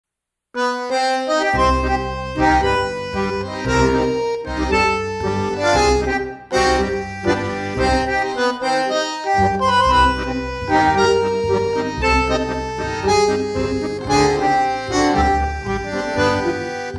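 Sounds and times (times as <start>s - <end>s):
held melody notes: 0.6s - 16.9s
steady bass beat: 1.5s - 8.6s, 9.4s - 16.9s.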